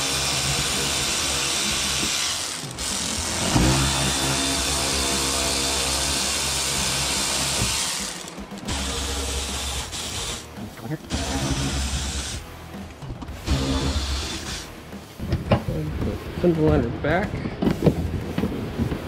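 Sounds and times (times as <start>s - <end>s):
electric ratchet whining: 0.0s - 15.3s.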